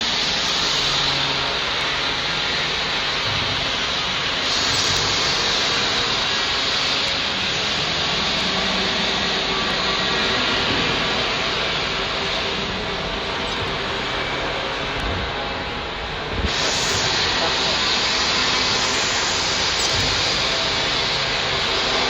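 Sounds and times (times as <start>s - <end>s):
welding arc hissing: 0.0s - 22.0s.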